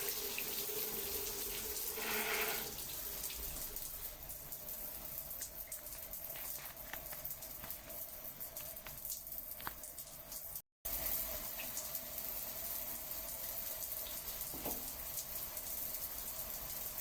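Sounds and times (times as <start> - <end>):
water running: 0.0 - 17.0.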